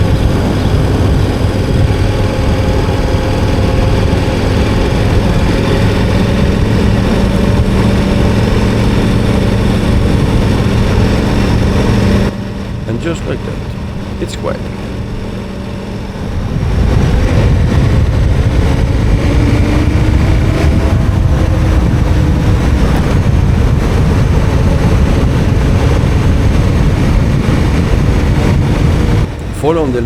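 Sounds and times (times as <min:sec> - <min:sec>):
motorcycle engine running: 0:00.0 - 0:30.0
wind and tyre rumble: 0:00.0 - 0:30.0.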